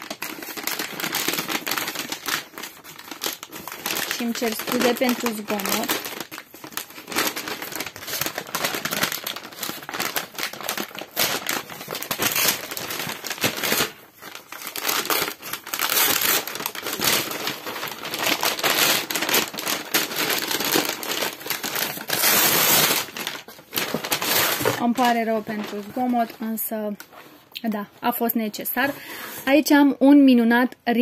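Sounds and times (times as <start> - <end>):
paper envelope tearing and crumpling: 0.0 - 27.1.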